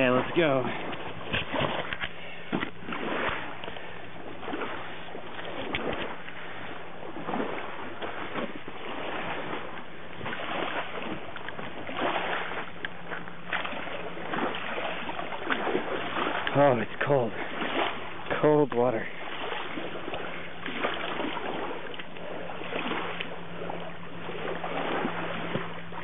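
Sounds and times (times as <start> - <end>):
footsteps wading in water: 0.0 - 26.0.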